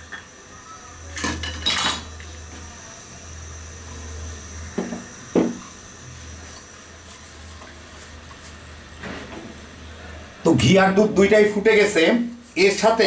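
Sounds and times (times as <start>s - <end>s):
milk bubbling in a pan: 0.0s - 13.0s.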